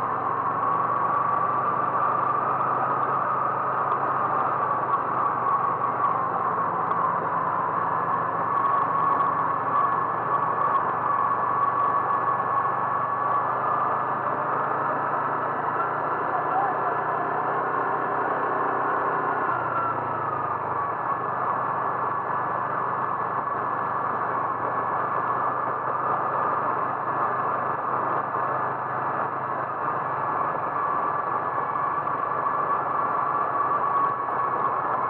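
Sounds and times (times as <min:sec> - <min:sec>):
road noise: 0:00.0 - 0:35.0
vehicle engine hum: 0:00.0 - 0:35.0.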